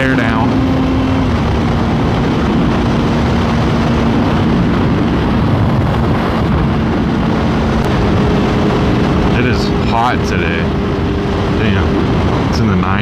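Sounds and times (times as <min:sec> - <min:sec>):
motorcycle engine running: 0:00.0 - 0:13.0
rushing noise: 0:00.0 - 0:13.0.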